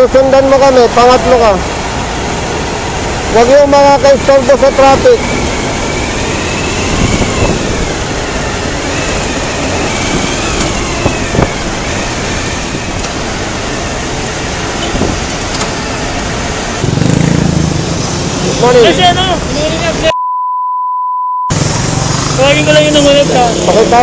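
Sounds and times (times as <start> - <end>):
motorcycle engines: 0.0 - 20.1, 21.5 - 24.0
road noise: 0.0 - 20.2, 21.5 - 24.0.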